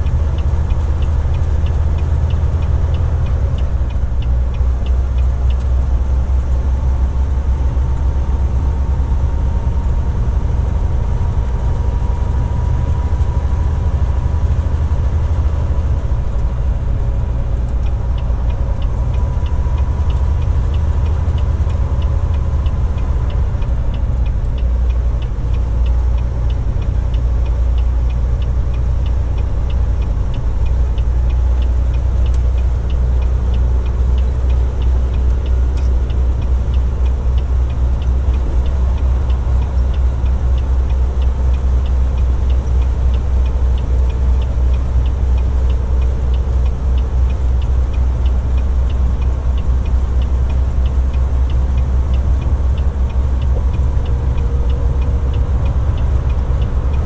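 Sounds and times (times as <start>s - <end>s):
fast light ticking: 0.0s - 9.4s, 17.6s - 57.0s
truck engine and tyre drone: 0.0s - 57.0s.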